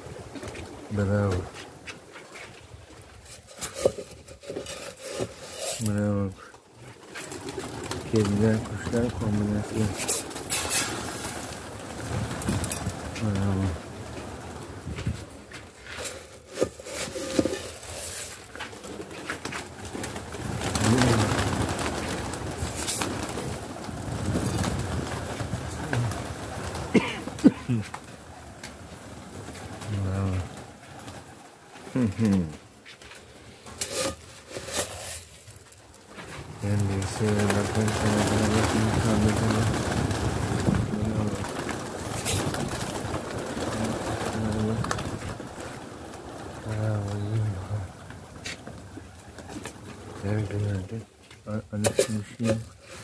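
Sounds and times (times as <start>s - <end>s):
pigeons cooing: 0.0s - 34.8s, 36.1s - 51.0s
wings fluttering: 0.0s - 53.0s.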